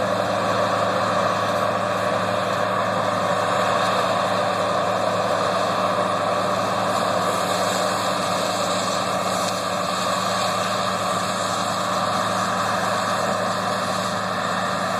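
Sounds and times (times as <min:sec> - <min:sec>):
combine harvester running: 0:00.0 - 0:14.9.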